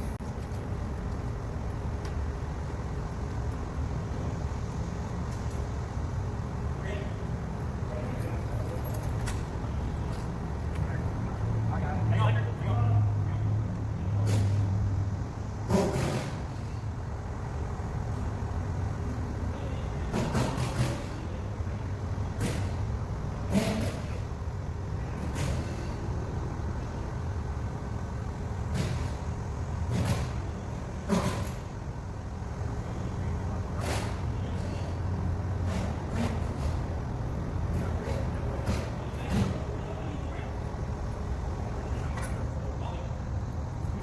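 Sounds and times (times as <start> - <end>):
diesel engine rumbling: 0.0 - 44.0.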